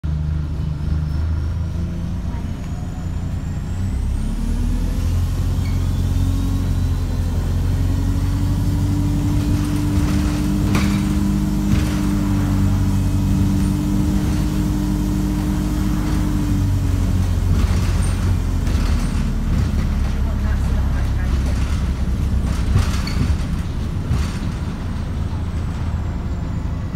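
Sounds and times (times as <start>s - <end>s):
bus engine droning: 0.0s - 26.9s.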